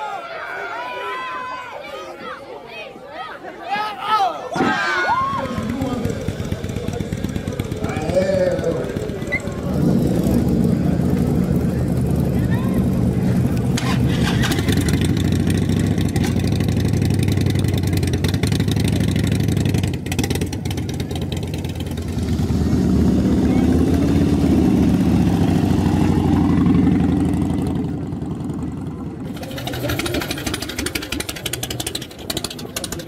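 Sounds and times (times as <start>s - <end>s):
motorcycle engines running: 5.2s - 33.0s
motorcycle revving and pulling away: 5.3s - 33.0s.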